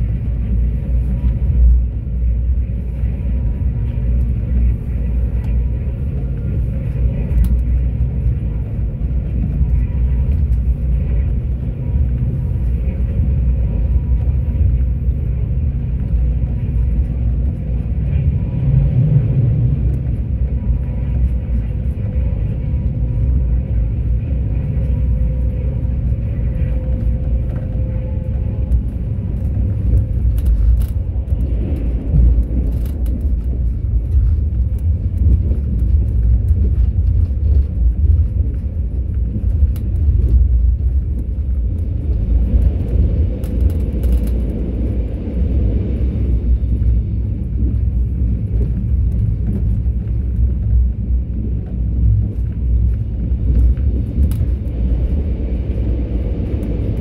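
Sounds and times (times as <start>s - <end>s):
passenger train rumbling on track: 0.0s - 57.0s.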